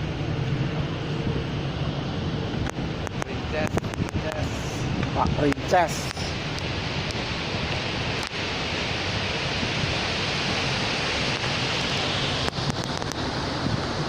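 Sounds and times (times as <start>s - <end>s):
sea noise: 0.0s - 14.0s
wind buffeting microphone: 0.0s - 14.0s
wind rushing: 0.0s - 14.0s.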